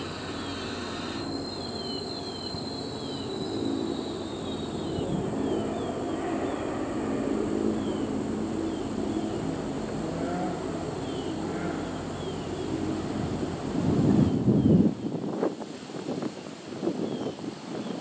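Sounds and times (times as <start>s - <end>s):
train rumbling: 0.0s - 15.0s
insect buzz: 0.0s - 15.2s.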